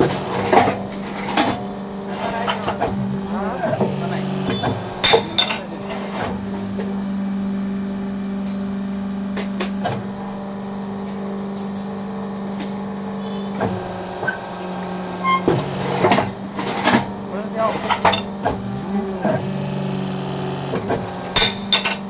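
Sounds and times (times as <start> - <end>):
hydraulic press motor humming: 0.0 - 22.0.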